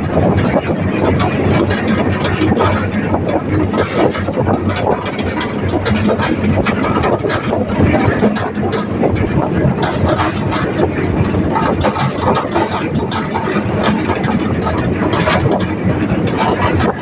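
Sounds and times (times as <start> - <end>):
clatter and rattle: 0.0 - 17.0
tractor engine running: 0.0 - 17.0.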